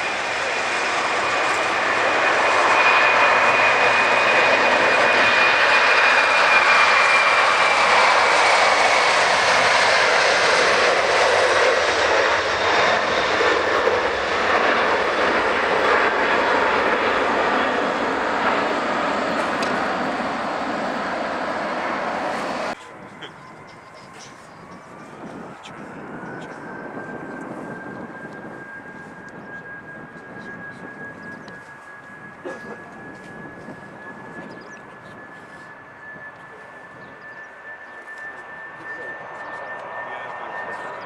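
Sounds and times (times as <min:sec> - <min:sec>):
high engine whine: 0:00.0 - 0:41.0
jet engines roaring past: 0:00.0 - 0:41.0.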